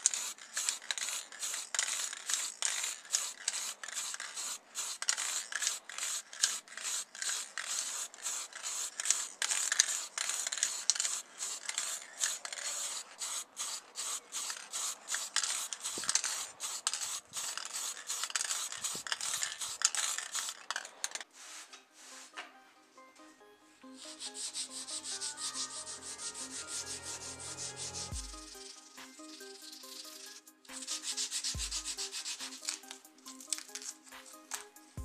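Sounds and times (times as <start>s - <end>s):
spray paint can hissing: 0.0s - 21.2s, 24.0s - 35.0s.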